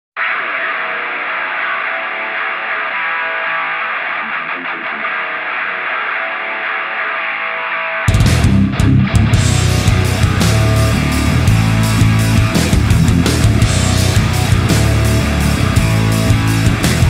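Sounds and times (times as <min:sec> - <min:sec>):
muffled distorted guitar riff: 0:00.2 - 0:17.0
rock band with drums and bass: 0:00.2 - 0:17.0.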